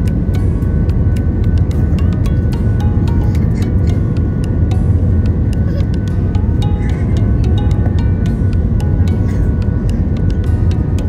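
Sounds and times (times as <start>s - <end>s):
music with heavy bass: 0.0s - 11.0s.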